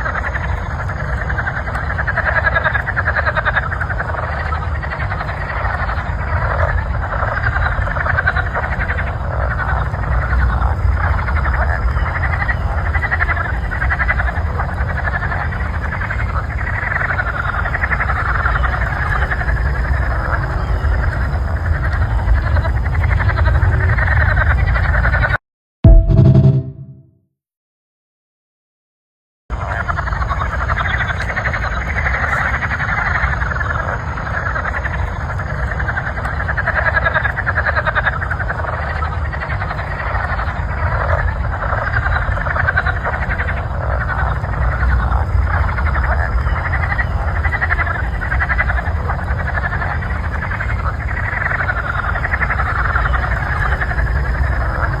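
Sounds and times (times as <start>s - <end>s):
chorus of frogs calling: 0.0s - 25.4s, 29.5s - 55.0s.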